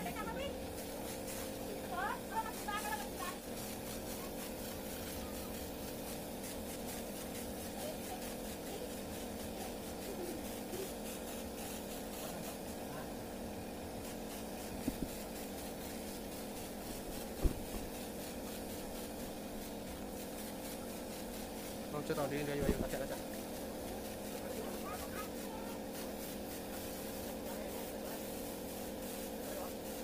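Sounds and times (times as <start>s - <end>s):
air compressor hum and hiss: 0.0s - 30.0s.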